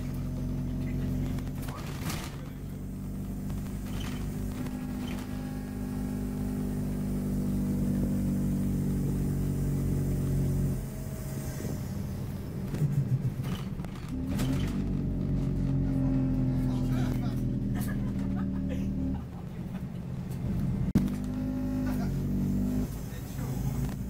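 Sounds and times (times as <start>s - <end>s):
bus engine hum: 0.0s - 24.0s.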